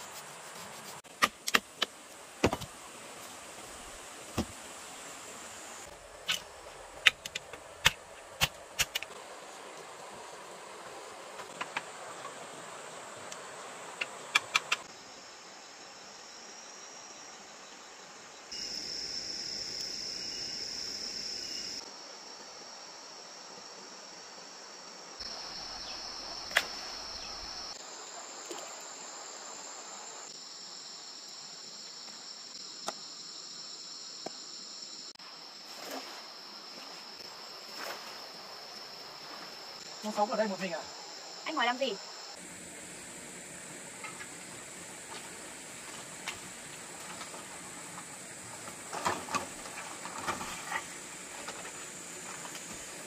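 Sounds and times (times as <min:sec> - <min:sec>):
crickets chirring: 0:00.0 - 0:53.0.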